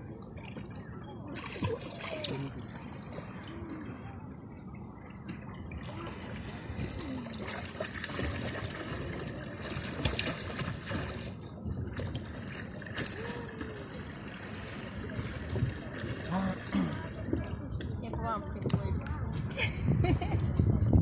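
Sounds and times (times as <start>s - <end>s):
water trickling and gurgling: 0.0s - 20.7s.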